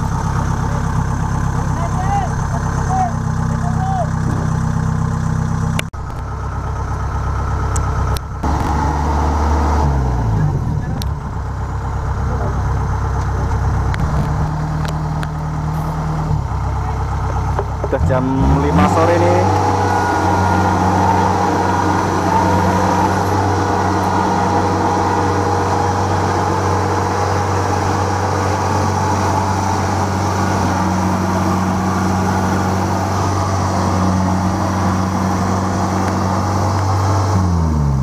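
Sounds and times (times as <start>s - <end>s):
combine harvester engine hum: 0.0s - 38.0s.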